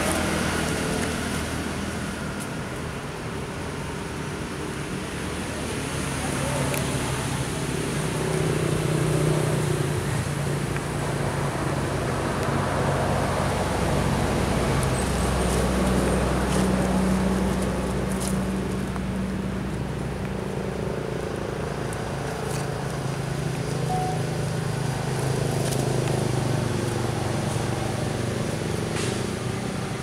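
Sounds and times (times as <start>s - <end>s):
road traffic rumble: 0.0s - 30.0s
vehicle engine hum: 0.0s - 30.0s.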